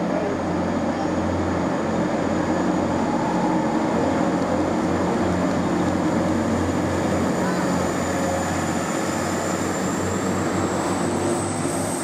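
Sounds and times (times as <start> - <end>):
train running with low drone: 0.0 - 12.0.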